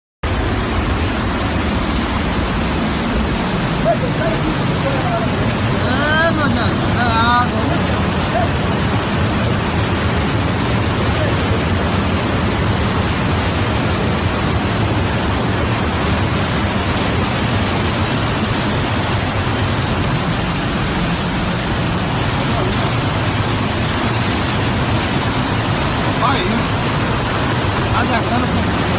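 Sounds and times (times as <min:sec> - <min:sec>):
torrential rain pouring: 0:00.2 - 0:28.9.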